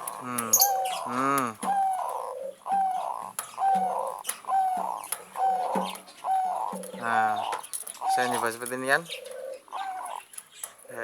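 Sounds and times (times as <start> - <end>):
dove cooing: 0.0 - 10.3.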